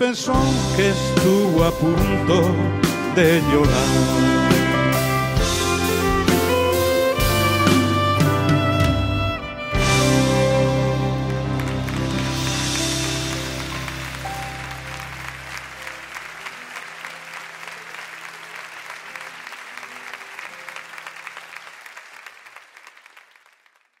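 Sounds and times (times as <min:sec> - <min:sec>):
audience applauding: 0:03.6 - 0:24.0.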